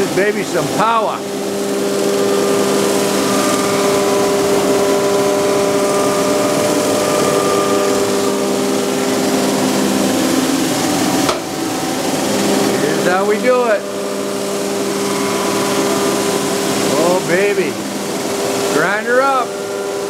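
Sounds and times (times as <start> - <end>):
grinding wheel cutting metal: 0.0 - 20.0.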